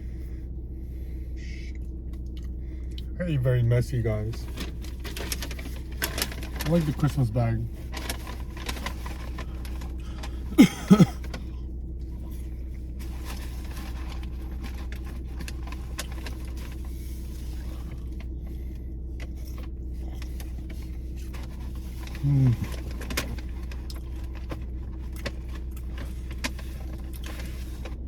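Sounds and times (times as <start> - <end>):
low steady hum: 0.0 - 28.0
messy eating clicks and rustles: 1.8 - 3.1, 4.1 - 28.0.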